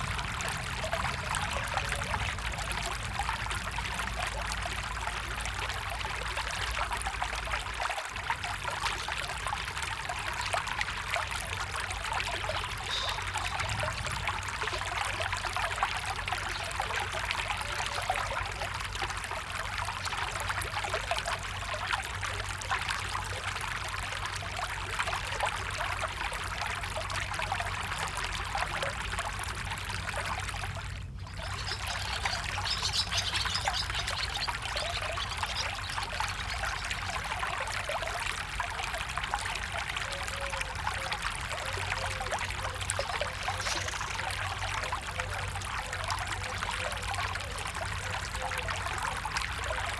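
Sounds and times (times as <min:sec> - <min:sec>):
stream trickling and babbling: 0:00.0 - 0:49.9.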